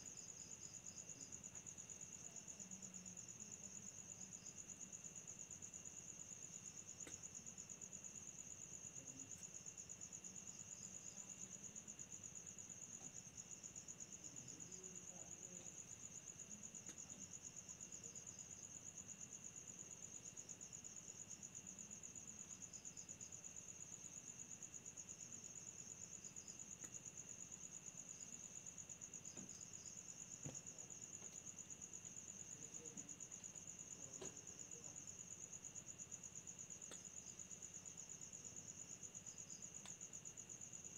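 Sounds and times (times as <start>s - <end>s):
crickets trilling: 0.1s - 40.9s.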